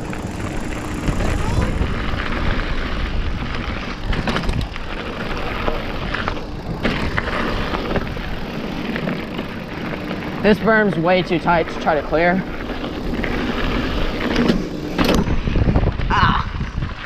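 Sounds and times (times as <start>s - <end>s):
bike rattling and clicking: 0.0s - 17.0s
bike tyres rolling on dirt: 0.0s - 17.0s
steady low rumble: 0.0s - 17.0s.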